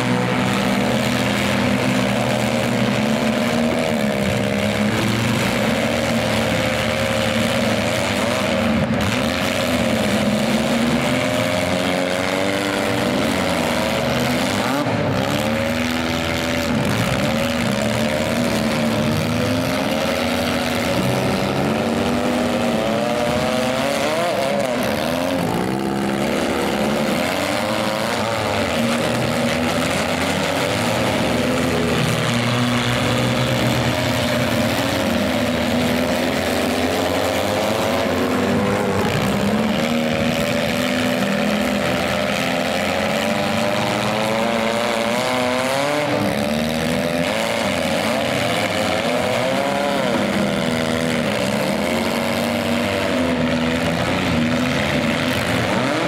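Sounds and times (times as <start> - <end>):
engines revving hard: 0.0 - 56.0.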